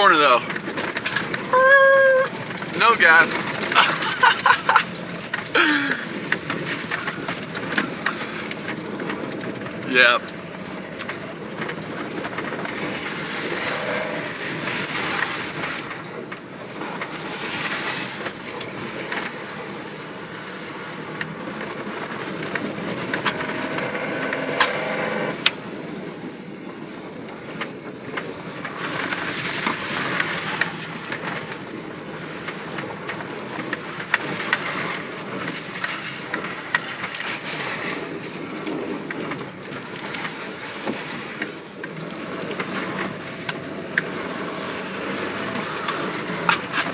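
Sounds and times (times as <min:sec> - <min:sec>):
pickup truck engine running: 0:00.0 - 0:24.2, 0:25.0 - 0:46.9
rattle and clatter: 0:00.3 - 0:01.6, 0:02.3 - 0:19.8, 0:21.0 - 0:46.9.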